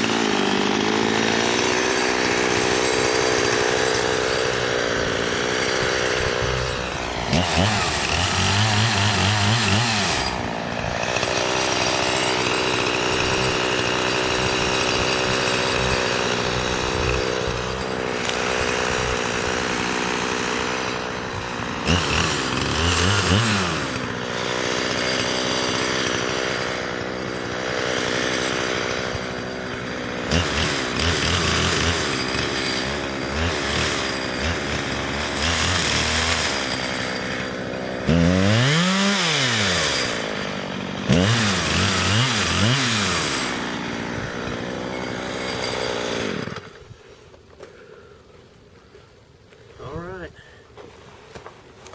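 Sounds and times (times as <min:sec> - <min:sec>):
chainsaw cutting wood: 0:00.0 - 0:48.6.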